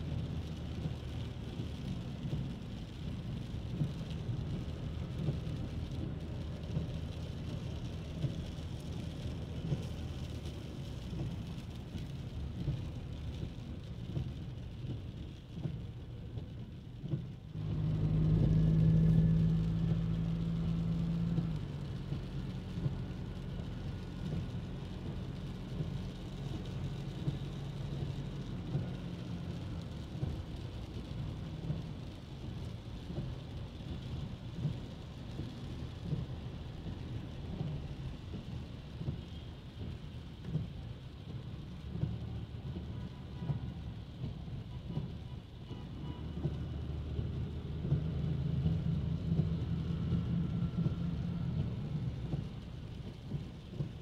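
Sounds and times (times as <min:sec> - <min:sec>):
rain: 0:00.0 - 0:54.0
street traffic rumble: 0:00.0 - 0:54.0
vehicle engine hum: 0:00.0 - 0:54.0.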